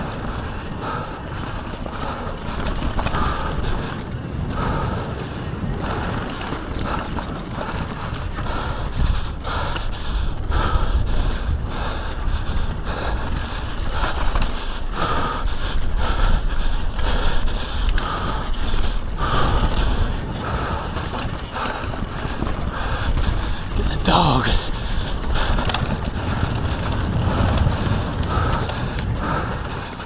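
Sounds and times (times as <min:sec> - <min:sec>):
bike knocking and rattling: 0:00.0 - 0:30.0
wind buffeting microphone: 0:00.0 - 0:30.0.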